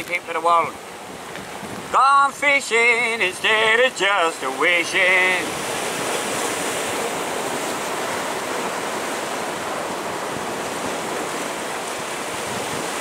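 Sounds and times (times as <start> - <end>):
sea surf breaking on rocks: 0.0 - 13.0
wind on microphone: 0.9 - 13.0.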